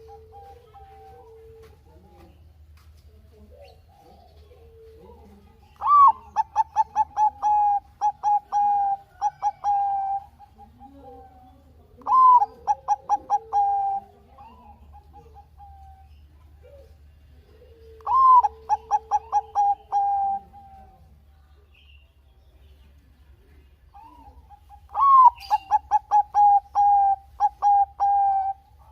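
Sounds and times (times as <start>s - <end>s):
dove cooing: 0.0s - 2.4s, 3.2s - 21.3s, 23.8s - 28.9s.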